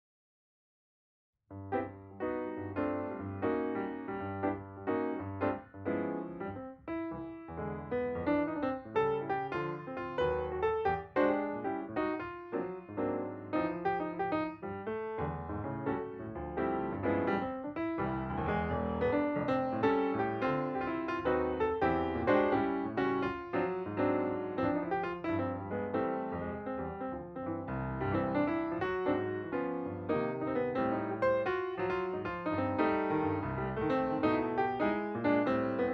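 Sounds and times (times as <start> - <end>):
piano chords: 1.5 - 35.9.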